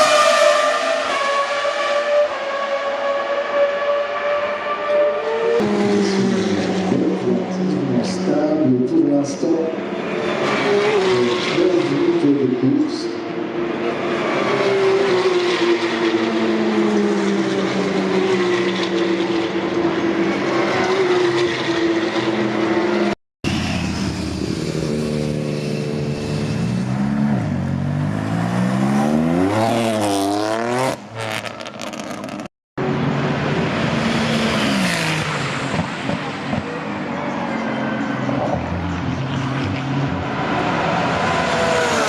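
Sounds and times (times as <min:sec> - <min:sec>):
race car engines revving: 0:00.0 - 0:42.0.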